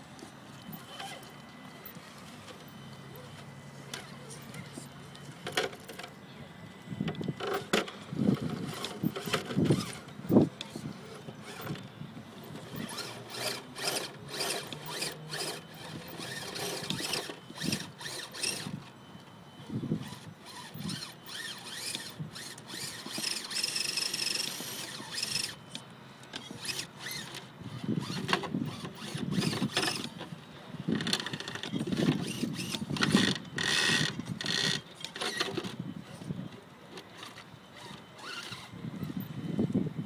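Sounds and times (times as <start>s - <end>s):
toy car motor and gears whining: 0.6s - 6.2s, 7.0s - 40.0s.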